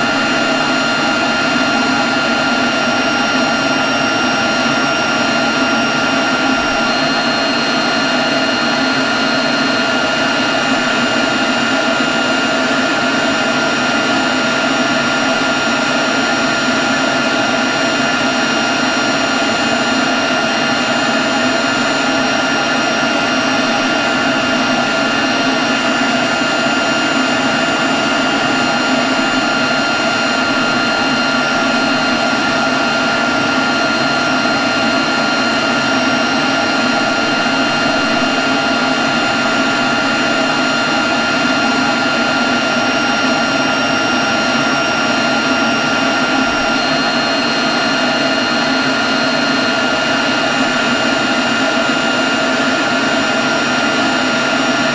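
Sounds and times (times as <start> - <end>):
leaf blower running: 0.0 - 54.9.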